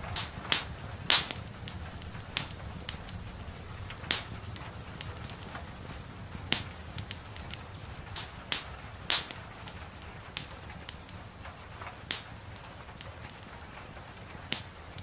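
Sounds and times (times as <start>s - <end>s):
fire crackling and popping: 0.0s - 15.0s
gentle rain hissing: 0.0s - 15.0s
low rumble of fire: 0.0s - 15.0s.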